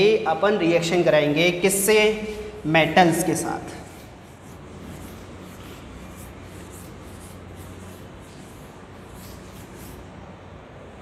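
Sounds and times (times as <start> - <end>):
cloth wiping chalkboard: 0.0 - 11.0.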